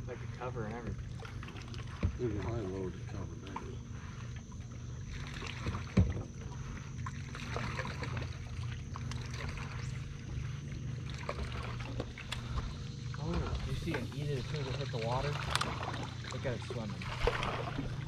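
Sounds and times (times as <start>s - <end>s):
steady low hum: 0.0s - 18.0s
water noise: 0.0s - 18.0s.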